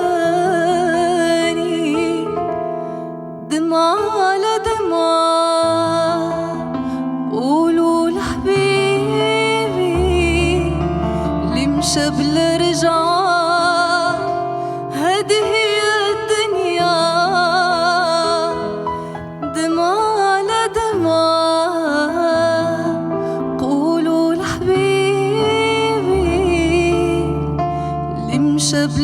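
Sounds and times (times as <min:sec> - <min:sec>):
woman singing with vibrato: 0:00.0 - 0:02.5, 0:03.4 - 0:29.0.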